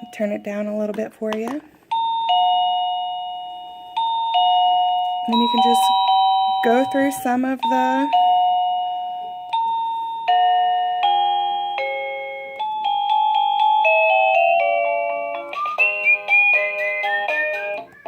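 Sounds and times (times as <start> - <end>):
electronic doorbell chime melody: 0.0 - 0.8, 1.9 - 17.9.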